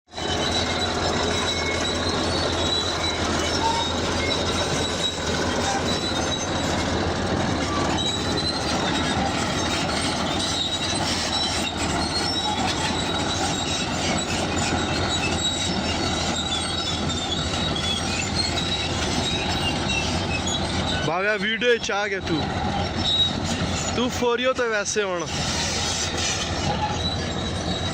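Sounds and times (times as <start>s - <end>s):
bulldozer engine running: 0.1s - 27.9s
high squeaks from tracks: 0.1s - 27.9s
steel crawler tracks clanking: 0.1s - 27.9s.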